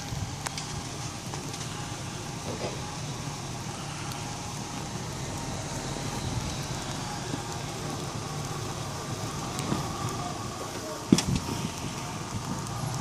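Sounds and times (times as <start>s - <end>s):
engine rumbling at low revs: 0.0s - 13.0s
even crackling noise: 0.0s - 13.0s.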